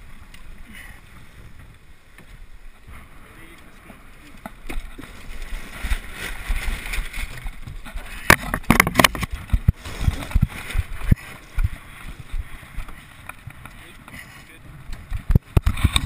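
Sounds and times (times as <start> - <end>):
rope and deck fittings rattling: 0.2 - 16.0.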